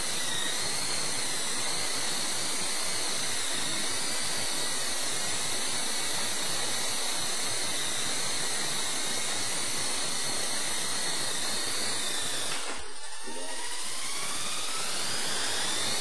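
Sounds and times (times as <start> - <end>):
rc helicopter motor whine: 0.0 - 16.0.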